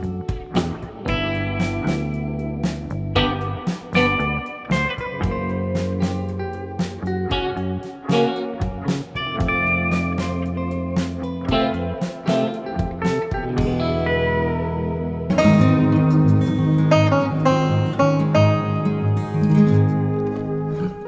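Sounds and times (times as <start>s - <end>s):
steady bass line: 0.0s - 19.2s
plucked guitar music: 0.0s - 21.0s.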